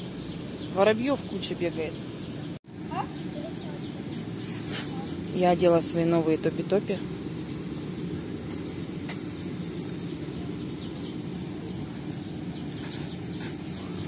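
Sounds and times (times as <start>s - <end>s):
distant traffic hum: 0.0s - 14.0s
sparrows chirping: 0.0s - 14.0s.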